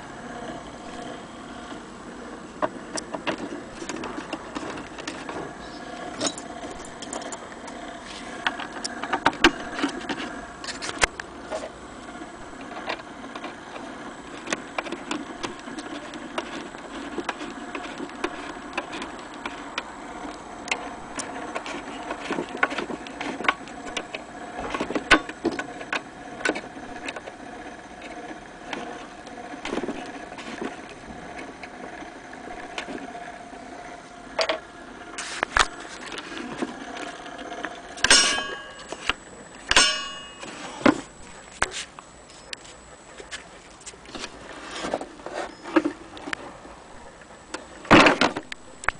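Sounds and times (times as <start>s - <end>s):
spring motor whirring: 0.0s - 41.4s.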